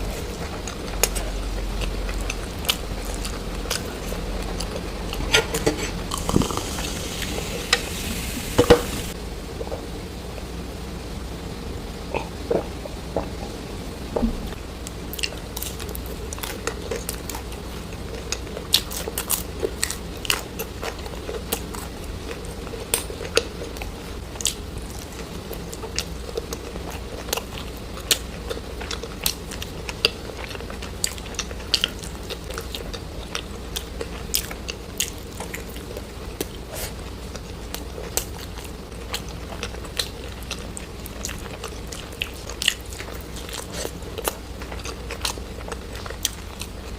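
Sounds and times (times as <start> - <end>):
chewing crunchy food: 0.0 - 7.8, 14.8 - 46.9.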